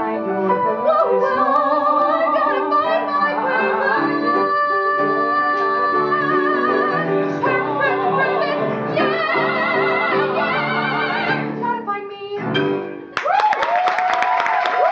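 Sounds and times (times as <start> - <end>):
piano accompaniment: 0.0 - 13.2.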